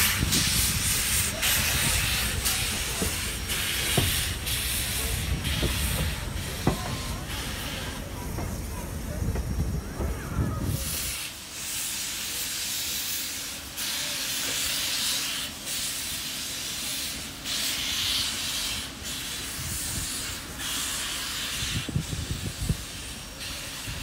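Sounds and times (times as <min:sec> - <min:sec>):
steam hissing from cylinder cocks: 0:00.0 - 0:24.0.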